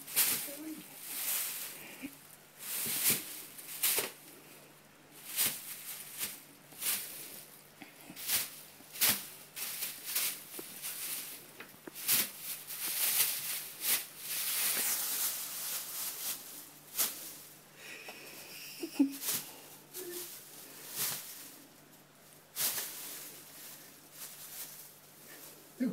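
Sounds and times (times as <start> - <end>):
plastic bag crinkling: 0.0 - 4.5, 5.1 - 17.7, 18.4 - 25.9.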